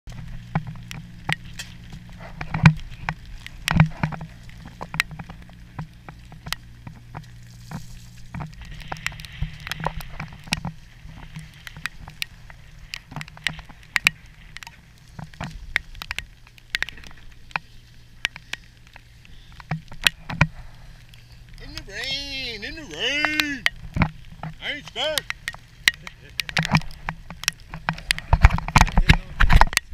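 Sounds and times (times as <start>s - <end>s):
boat engine humming: 0.0s - 29.9s
rain ticking on deck: 0.1s - 29.9s.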